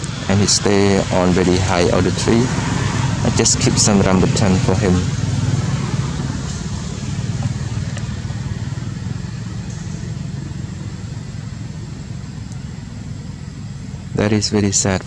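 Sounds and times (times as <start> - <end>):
motor engine humming: 0.0 - 15.0.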